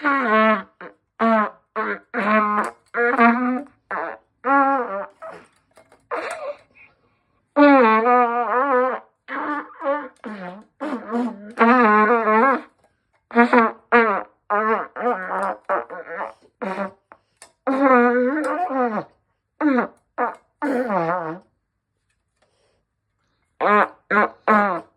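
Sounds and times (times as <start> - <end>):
brassy fart sound tune: 0.0 - 6.7, 7.6 - 21.6, 23.6 - 24.9.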